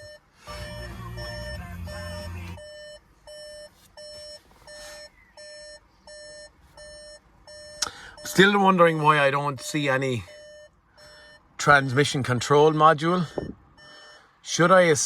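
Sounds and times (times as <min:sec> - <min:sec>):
car warning chime beeping: 0:00.0 - 0:15.0.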